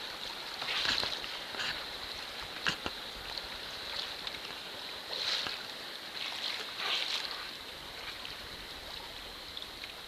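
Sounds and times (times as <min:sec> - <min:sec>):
water lapping around kayak: 0:00.0 - 0:10.0.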